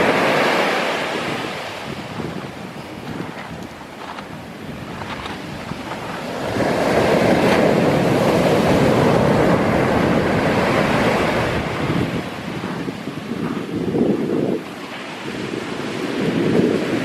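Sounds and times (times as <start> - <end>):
wave breaking and washing in: 0.0 - 17.0.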